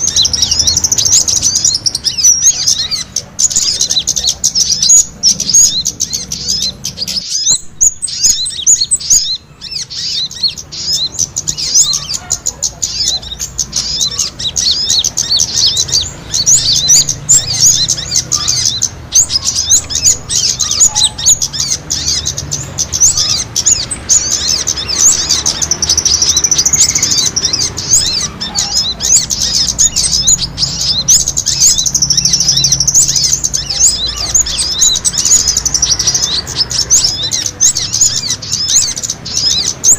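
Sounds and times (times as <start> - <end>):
small birds chirping rapidly: 0.0 - 39.9.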